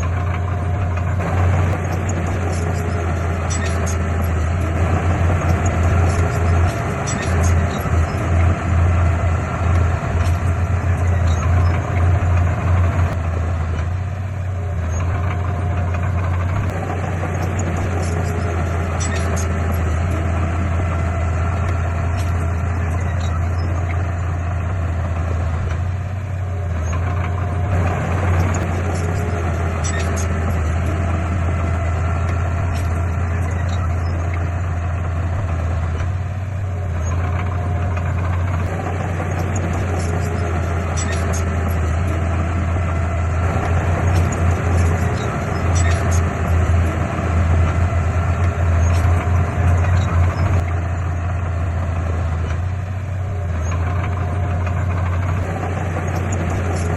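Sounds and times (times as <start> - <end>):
heavy diesel engine droning: 0.0 - 56.9.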